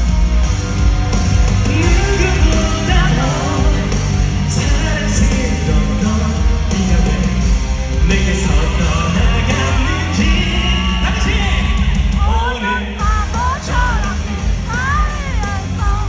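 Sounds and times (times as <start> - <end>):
heavy bass: 0.0 - 16.0
live rock band: 0.0 - 16.0
steady drum beat: 0.0 - 16.0
man singing: 1.5 - 16.0.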